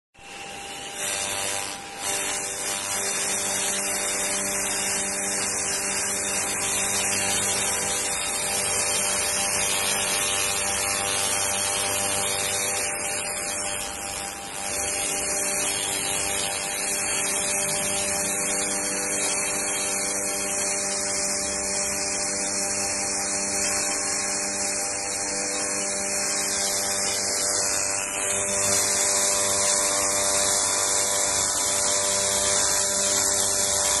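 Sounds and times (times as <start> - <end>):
steady multi-tone hum: 0.2 - 34.0
laser hissing crackle: 0.3 - 34.0.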